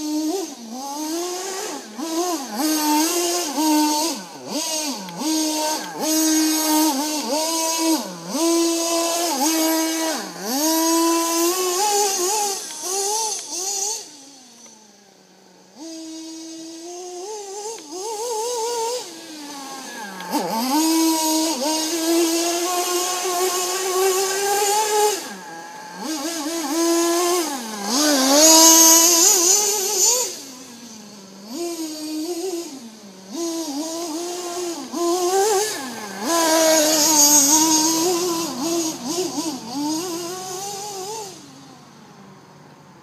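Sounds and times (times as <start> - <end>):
rc car engine revving: 0.0 - 43.0.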